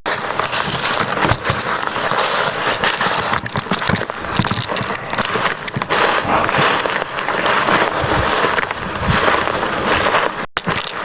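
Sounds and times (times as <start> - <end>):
footsteps crunching through dry leaves: 0.1 - 11.0.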